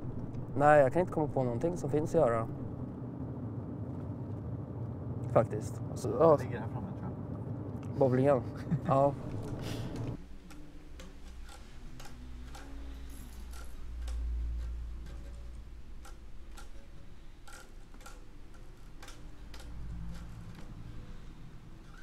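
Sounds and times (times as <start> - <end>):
steady ticking: 0.0 - 7.9, 8.7 - 22.0
low hum: 0.0 - 22.0.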